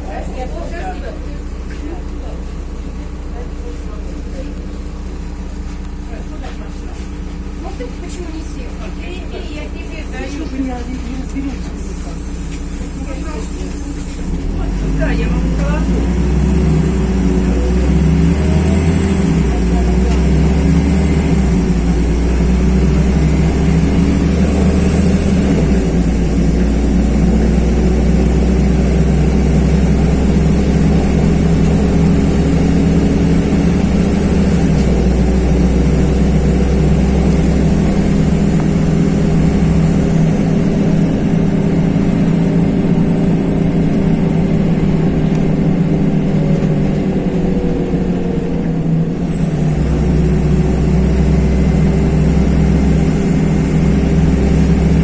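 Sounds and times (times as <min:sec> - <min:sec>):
bus diesel engine running: 0:00.0 - 0:55.0
road noise: 0:00.0 - 0:55.0.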